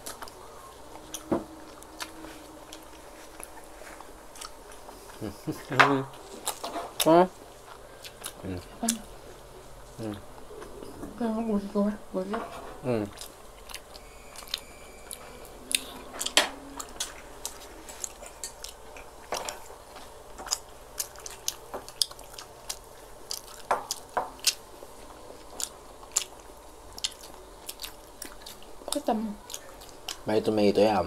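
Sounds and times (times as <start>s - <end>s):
chewing and mouth clicks: 0.0s - 10.7s, 13.1s - 30.3s.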